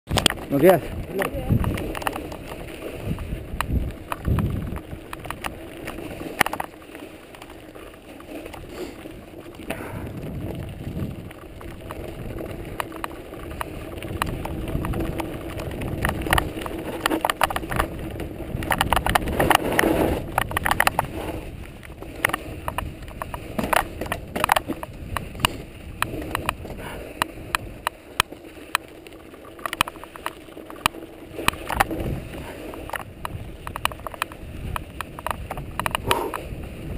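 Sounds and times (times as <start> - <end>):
bike clicks and rattles: 0.1 - 36.9
bike tyres rolling on gravel: 0.1 - 36.9.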